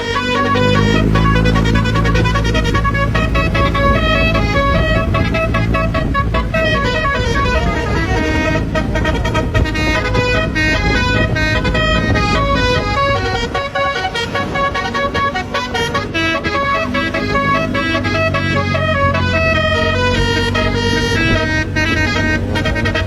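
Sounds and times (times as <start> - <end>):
multi-tone air horn melody: 0.0 - 23.0
low rumble: 0.3 - 23.0.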